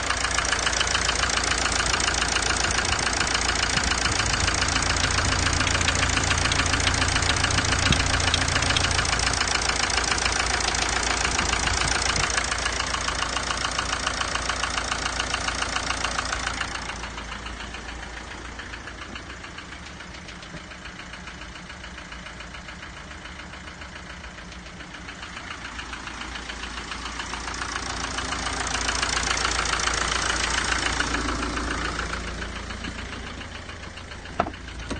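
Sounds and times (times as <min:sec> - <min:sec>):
diesel engine running: 0:00.0 - 0:34.9
rapid rhythmic engine ticking: 0:00.0 - 0:34.9.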